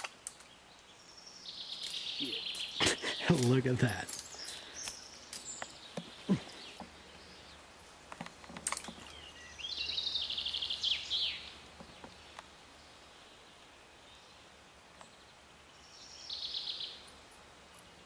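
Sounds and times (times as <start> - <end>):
faint outdoor hush: 0.0 - 18.0.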